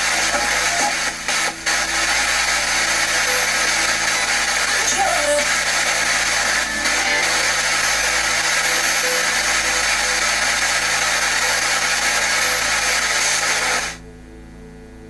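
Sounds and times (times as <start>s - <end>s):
radio static: 0.0s - 14.0s.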